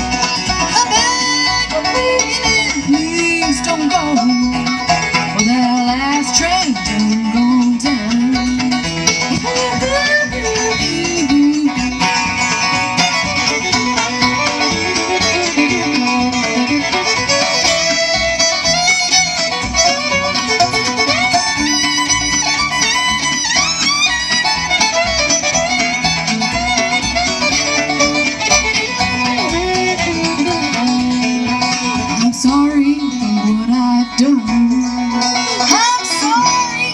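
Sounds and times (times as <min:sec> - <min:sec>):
bluegrass band playing: 0:00.0 - 0:36.9
fiddle melodic runs: 0:00.0 - 0:36.9
guitar rhythm: 0:00.0 - 0:36.9.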